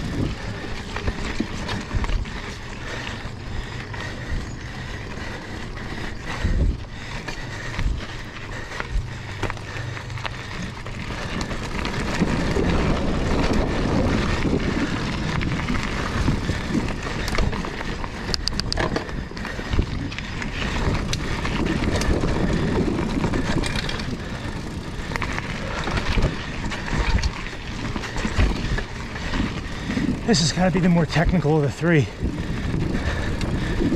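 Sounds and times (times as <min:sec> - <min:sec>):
bike knocking and rattling: 0:00.0 - 0:33.9
bike tyre and wind noise: 0:00.0 - 0:33.9.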